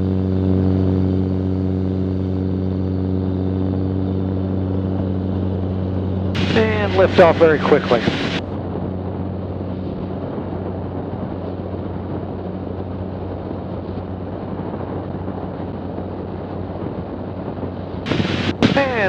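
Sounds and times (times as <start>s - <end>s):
aircraft engine and propeller drone: 0.0s - 19.0s.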